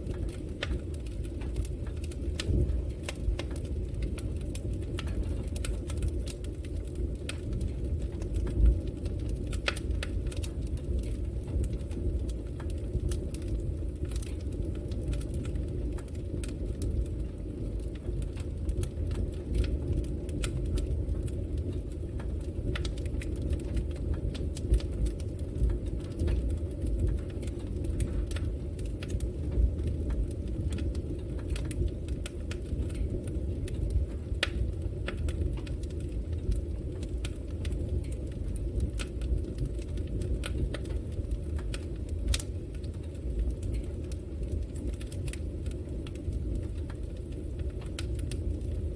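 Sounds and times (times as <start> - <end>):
fire crackling in fireplace: 0.0 - 48.9.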